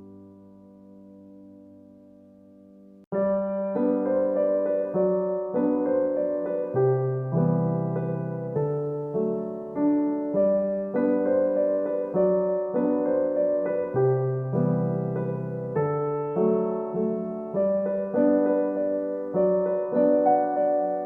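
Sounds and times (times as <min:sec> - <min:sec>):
gentle piano piece: 0:00.0 - 0:21.0.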